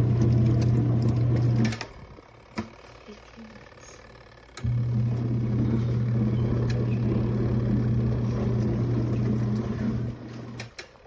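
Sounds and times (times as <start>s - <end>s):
spin-dryer motor humming: 0.0s - 11.0s.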